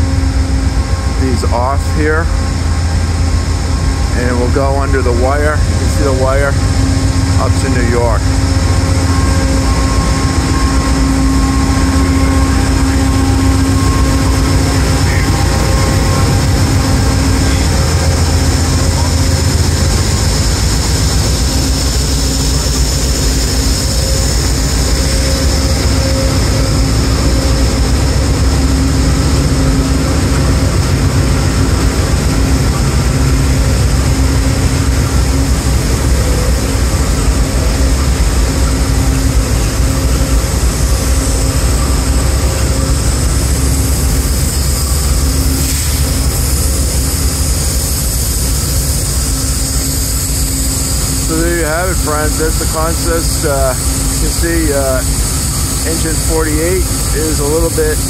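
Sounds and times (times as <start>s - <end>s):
diesel locomotives idling: 0.0s - 58.0s
high whine: 0.0s - 58.0s.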